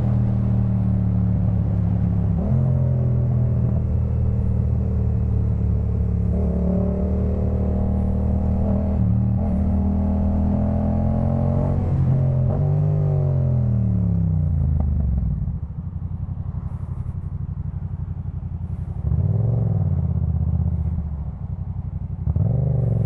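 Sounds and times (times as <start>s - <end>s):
motorcycle engine running: 0.0s - 11.7s, 13.9s - 23.0s.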